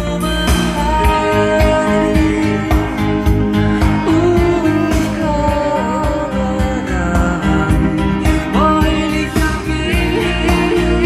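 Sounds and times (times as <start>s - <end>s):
song over loudspeakers: 0.0s - 11.0s.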